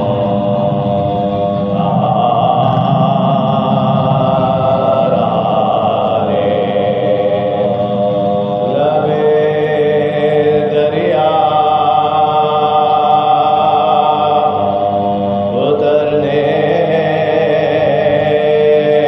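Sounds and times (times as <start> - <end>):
men chanting unaccompanied: 0.0 - 19.0.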